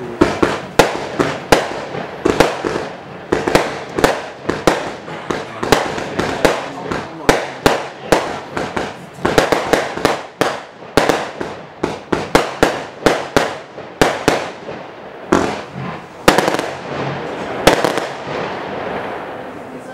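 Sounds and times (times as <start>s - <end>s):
firework bangs: 0.0s - 19.9s.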